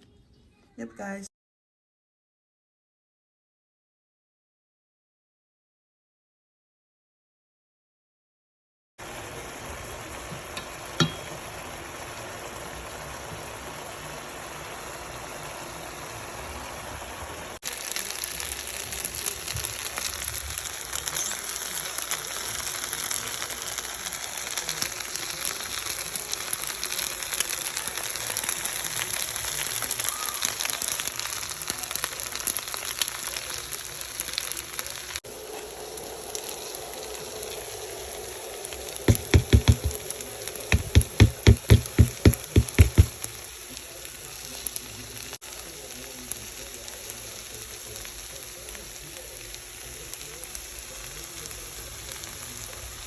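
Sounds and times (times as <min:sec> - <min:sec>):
food sizzling in pan: 0:09.0 - 0:53.0.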